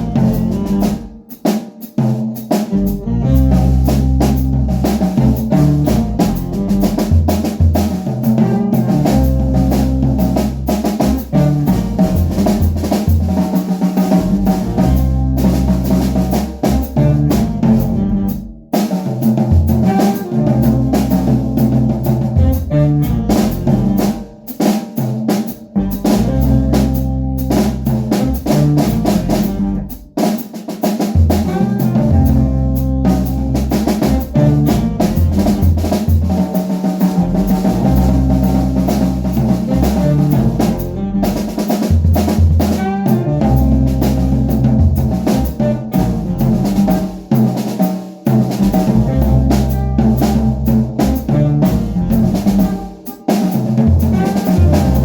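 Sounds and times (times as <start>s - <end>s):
bass drum thumps: 0.0s - 1.3s, 2.6s - 24.4s, 25.7s - 30.2s, 31.2s - 47.6s, 48.3s - 53.0s, 53.7s - 55.0s
jazz band playing: 0.0s - 55.0s
snare drum and rimshots: 0.0s - 55.0s.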